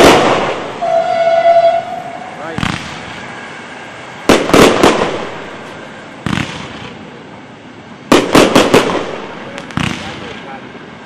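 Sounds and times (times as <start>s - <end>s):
fireworks bursting overhead: 0.0s - 3.5s, 4.2s - 7.2s, 8.0s - 10.8s.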